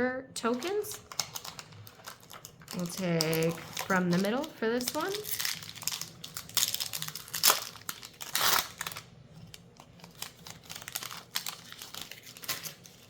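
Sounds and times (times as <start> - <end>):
cards rustling and clicking: 0.5 - 13.0
foil wrapper tearing and crinkling: 0.5 - 13.0.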